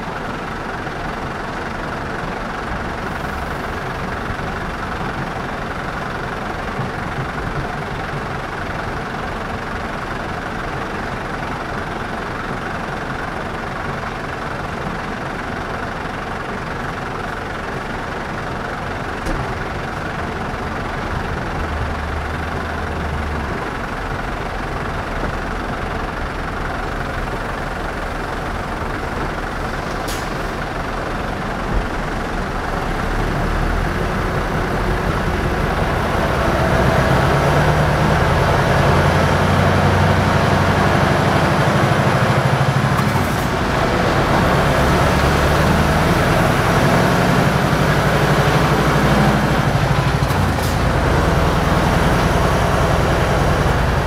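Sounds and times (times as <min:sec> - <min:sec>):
diesel engines idling: 0:00.0 - 0:54.0.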